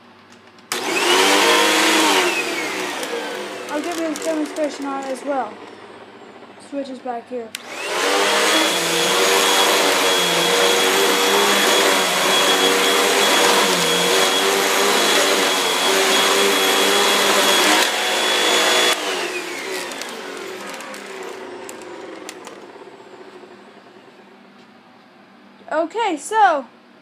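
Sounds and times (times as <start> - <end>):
vacuum cleaner whine: 0.7 - 6.7, 7.6 - 24.8.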